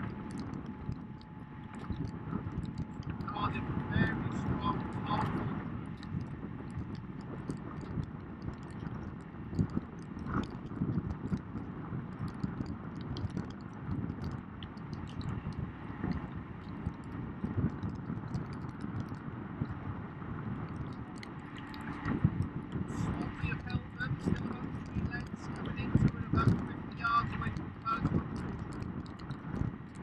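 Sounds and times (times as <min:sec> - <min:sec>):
water splashing: 0:00.0 - 0:30.0
wind noise: 0:00.0 - 0:30.0.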